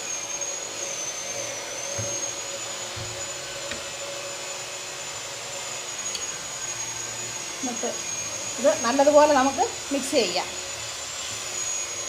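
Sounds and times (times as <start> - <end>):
high machine whine: 0.0 - 12.0.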